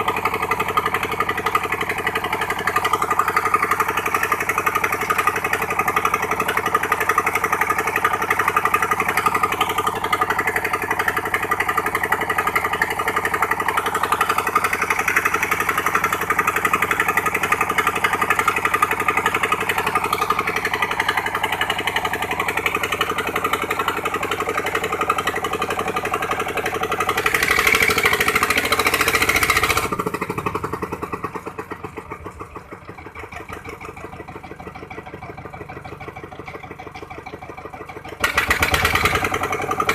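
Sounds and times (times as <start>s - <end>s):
pump engine pulsing: 0.0s - 39.9s.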